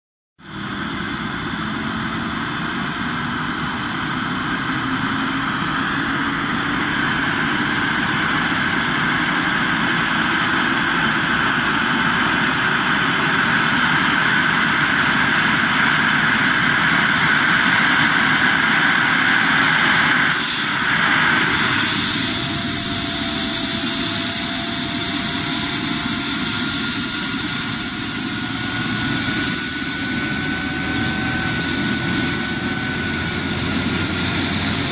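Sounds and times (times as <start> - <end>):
helicopter turbines and rotor: 0.4 - 34.9
turbine whines climbing in pitch: 0.4 - 34.9.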